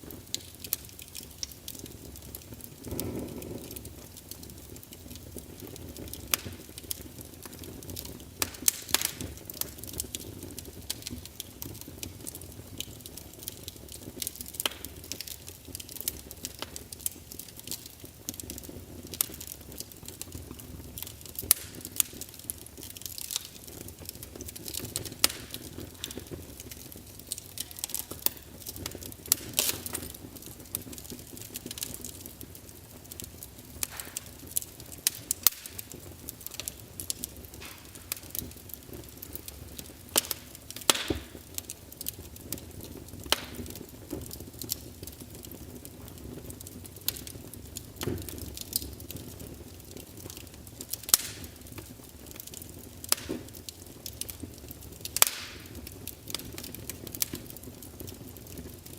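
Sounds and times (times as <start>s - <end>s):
hiss and rumble of flames: 0.0s - 58.9s
logs crackling and popping: 0.0s - 58.9s.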